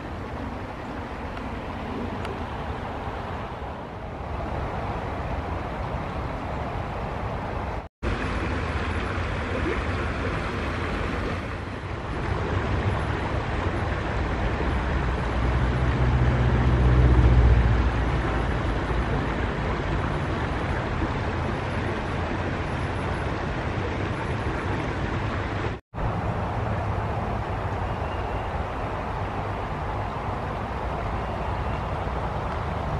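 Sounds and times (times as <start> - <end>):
river flowing over pebbles: 0.0 - 32.9.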